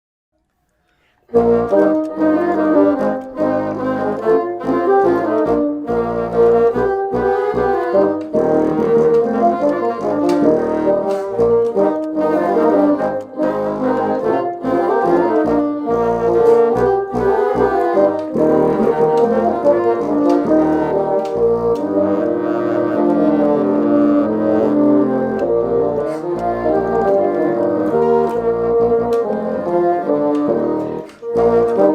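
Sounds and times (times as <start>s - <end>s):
bassoon ensemble playing carol: 1.3s - 31.9s.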